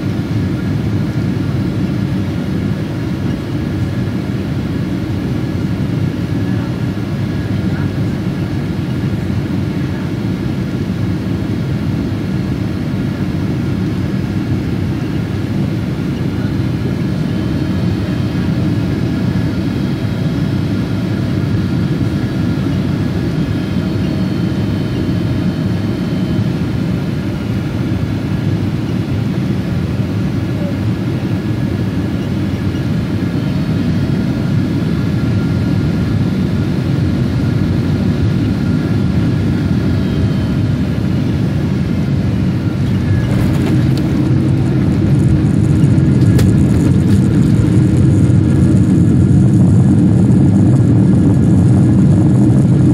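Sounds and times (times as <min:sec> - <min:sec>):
deep rumble of engines and airflow: 0:00.0 - 0:52.9.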